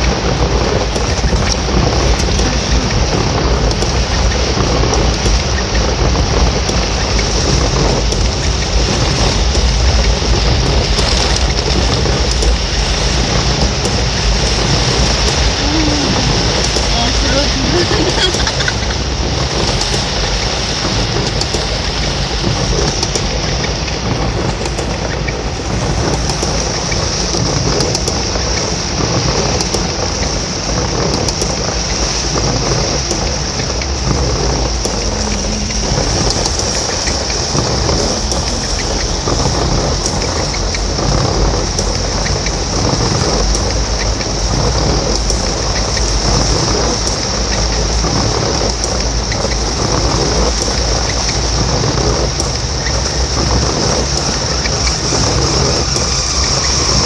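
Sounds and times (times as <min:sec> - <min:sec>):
heavy rain falling: 0:00.0 - 0:57.0
low rumble: 0:00.0 - 0:57.0.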